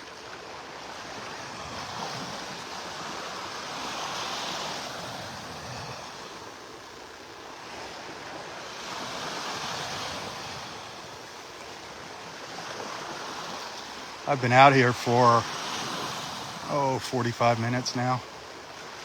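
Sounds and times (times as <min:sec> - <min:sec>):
surf washing onto beach: 0:00.0 - 0:19.0.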